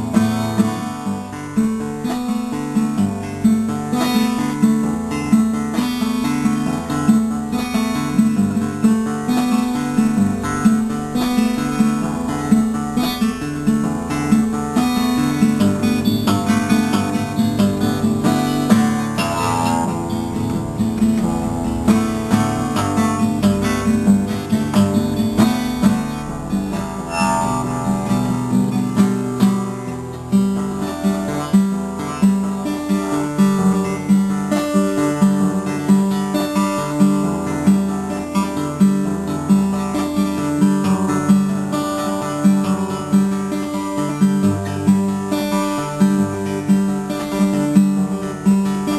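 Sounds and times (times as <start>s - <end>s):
solo acoustic guitar: 0.0s - 48.9s.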